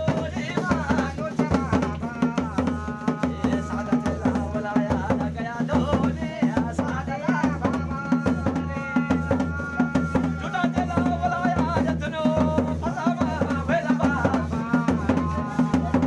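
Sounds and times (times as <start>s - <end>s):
drums beating: 0.0s - 16.0s
person singing: 0.0s - 16.0s.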